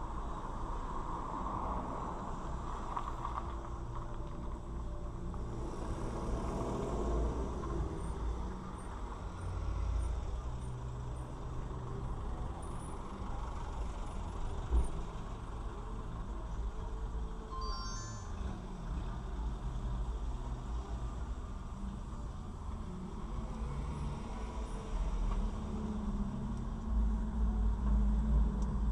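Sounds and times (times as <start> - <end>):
car engine and traffic rumble: 0.0 - 28.9.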